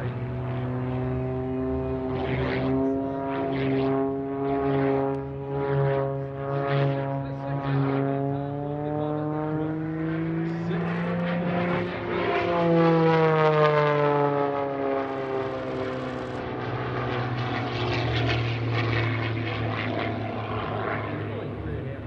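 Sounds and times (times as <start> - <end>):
propeller plane engine: 0.0 - 22.0.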